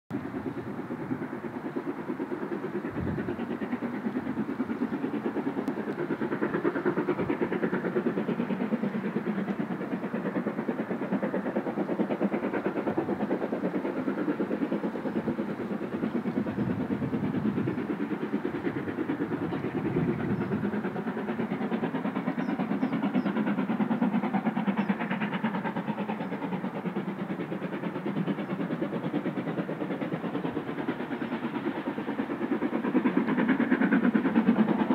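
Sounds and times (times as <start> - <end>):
distant steam locomotive chuffing: 0.1 - 34.9.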